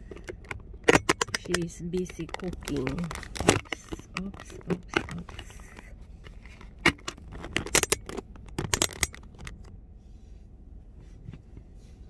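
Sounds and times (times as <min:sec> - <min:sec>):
phone handling clicks and rustles: 0:00.0 - 0:09.8.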